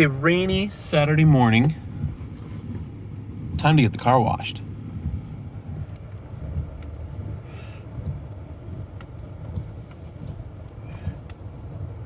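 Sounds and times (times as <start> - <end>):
car engine and road rumble: 0.0 - 12.0
light ticks of rain: 0.0 - 12.0.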